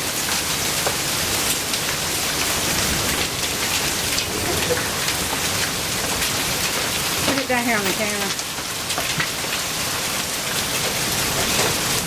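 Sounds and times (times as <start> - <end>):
heavy rain hissing: 0.0 - 12.0
hailstones striking: 0.2 - 12.0.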